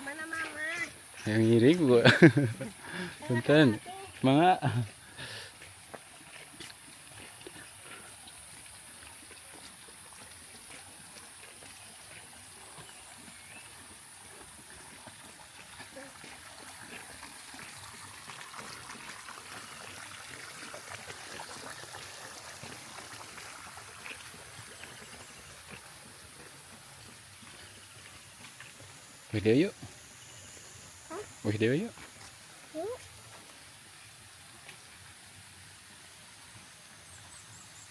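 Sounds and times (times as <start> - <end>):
steady high-pitched hiss: 0.0 - 14.8, 20.9 - 37.9
water trickling in a stream: 0.0 - 37.9.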